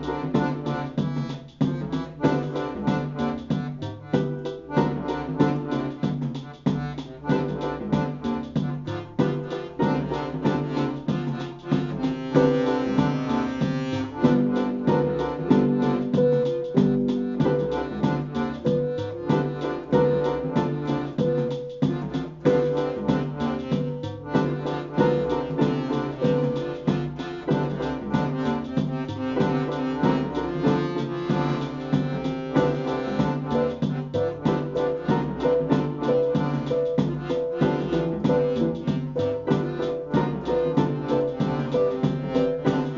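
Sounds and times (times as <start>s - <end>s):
accordions playing chords: 0.0s - 42.9s
fast sequenced click beat: 0.0s - 42.9s
keyboard: 0.0s - 42.9s.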